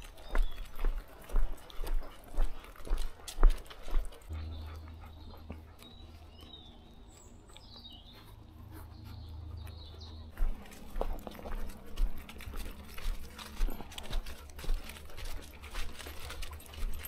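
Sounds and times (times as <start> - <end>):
footsteps on a path: 0.0 - 17.0
small birds chirping: 0.0 - 17.0.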